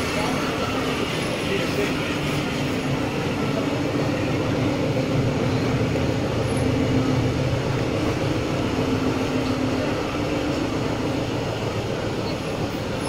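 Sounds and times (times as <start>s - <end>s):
train running with low hum: 0.0s - 13.0s.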